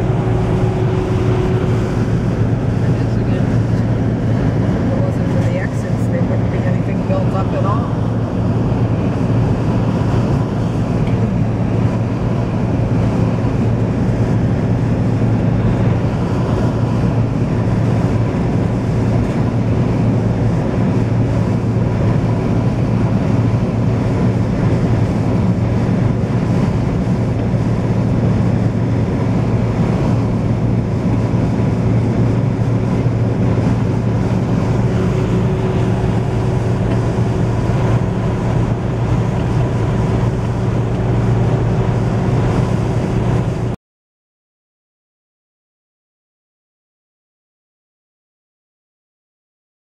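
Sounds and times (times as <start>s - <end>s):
road and engine drone: 0.0s - 43.8s.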